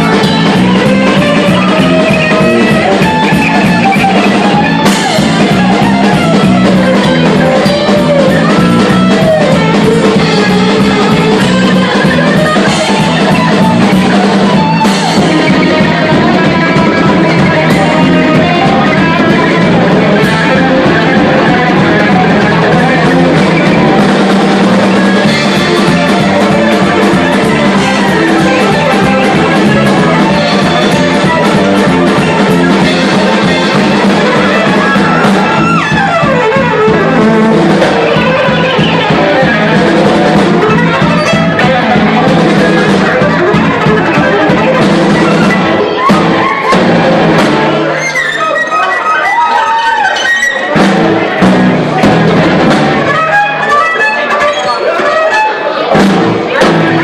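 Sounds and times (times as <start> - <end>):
live band playing fast tune: 0.0 - 57.0.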